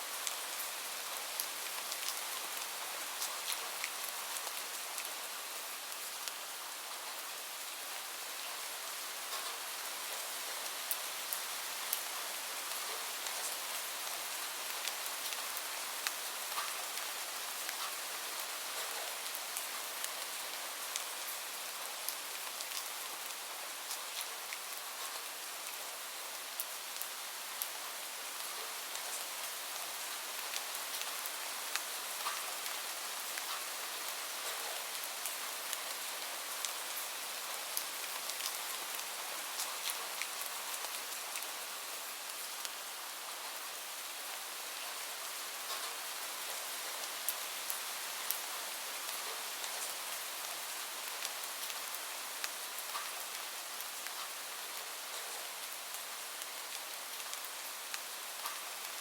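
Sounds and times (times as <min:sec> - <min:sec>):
steady rain hiss: 0:00.0 - 0:59.0
raindrops ticking on a surface: 0:00.1 - 0:07.7, 0:08.4 - 0:59.0.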